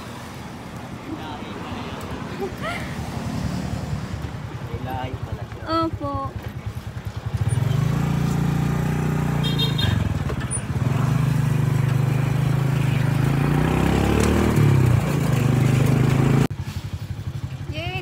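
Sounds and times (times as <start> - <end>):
motorcycle engine running: 3.5 - 18.0.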